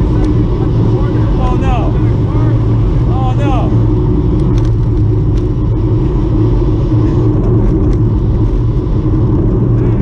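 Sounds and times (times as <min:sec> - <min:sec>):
bicycle road rumble: 0:00.0 - 0:10.0
wind noise: 0:00.0 - 0:10.0.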